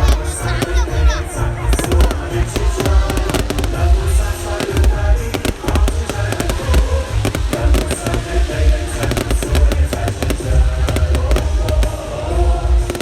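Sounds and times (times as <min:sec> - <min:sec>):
fireworks banging and crackling: 0:00.0 - 0:13.0
music with heavy beat: 0:00.0 - 0:13.0.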